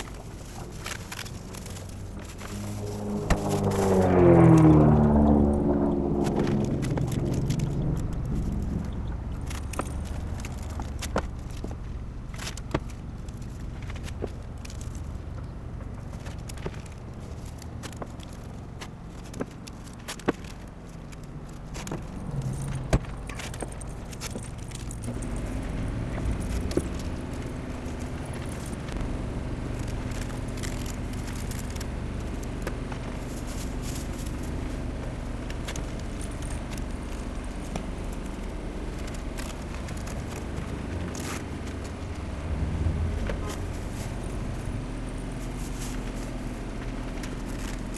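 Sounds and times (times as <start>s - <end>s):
steady low rumble: 0.0s - 17.5s, 22.0s - 47.9s.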